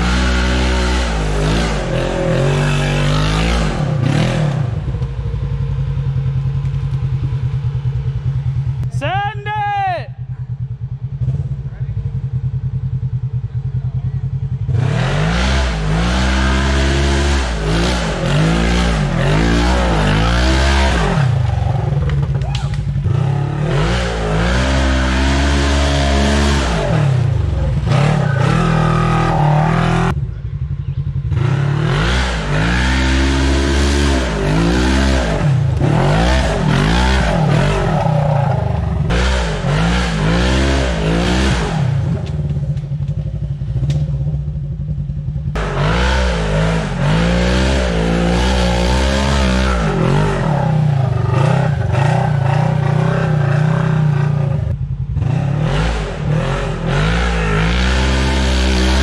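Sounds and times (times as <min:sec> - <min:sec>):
off-road vehicle engine revving: 0:00.0 - 0:09.0, 0:10.7 - 0:59.0.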